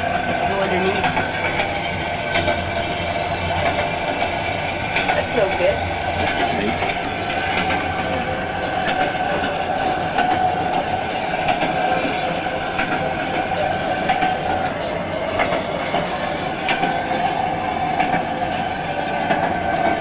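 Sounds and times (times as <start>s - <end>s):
train carriage rumbling: 0.0s - 20.0s
wheels clicking over rails: 0.0s - 20.0s.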